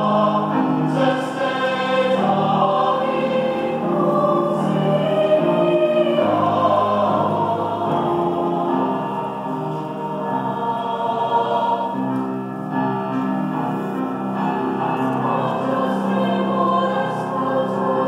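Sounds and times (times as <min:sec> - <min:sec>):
choir singing sustained chords: 0:00.0 - 0:18.0
grand piano accompaniment: 0:00.0 - 0:18.0.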